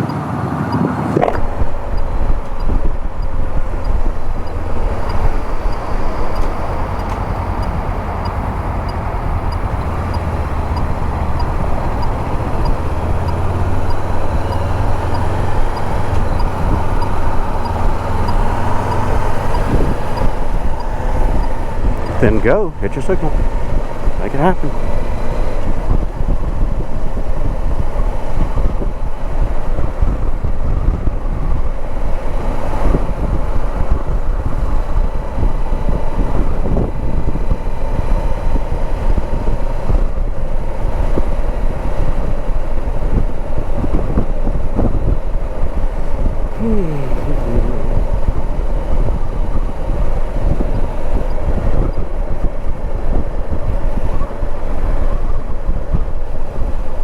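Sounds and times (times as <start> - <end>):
wind buffeting microphone: 0.0 - 57.0
motorcycle engine running: 1.1 - 57.0.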